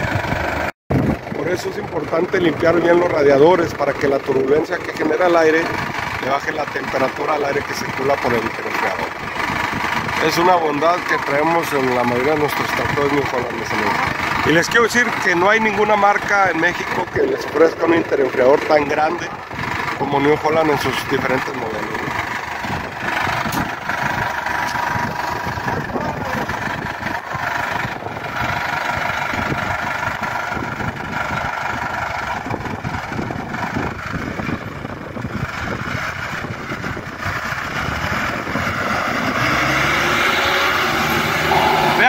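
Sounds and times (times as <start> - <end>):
tractor diesel engine: 0.0 - 42.0.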